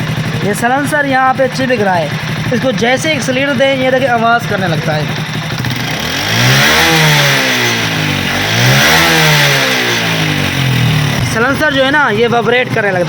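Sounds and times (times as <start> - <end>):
buzzing rattle of exhaust: 0.0 - 13.0
motorcycle engine revving: 0.0 - 13.0.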